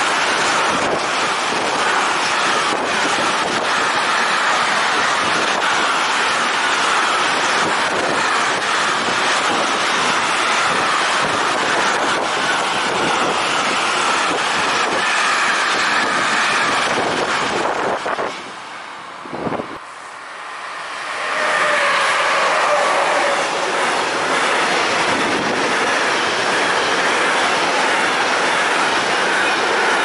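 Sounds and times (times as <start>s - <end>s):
freight train wheels rushing on rail: 0.0s - 30.0s.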